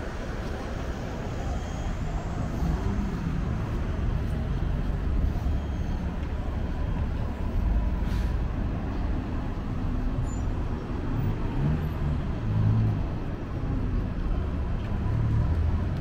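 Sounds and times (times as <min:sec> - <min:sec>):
passing traffic rumble: 0:00.0 - 0:16.0.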